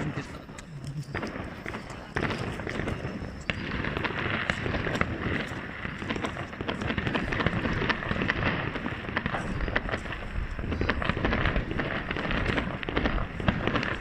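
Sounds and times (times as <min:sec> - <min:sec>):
distant fireworks rumble: 0:00.0 - 0:14.0
fireworks pops and cracks: 0:00.0 - 0:14.0.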